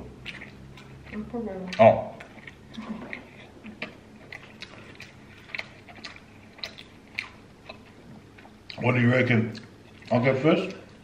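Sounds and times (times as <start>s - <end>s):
chewing sandwich mouth clicks: 0.0s - 8.8s.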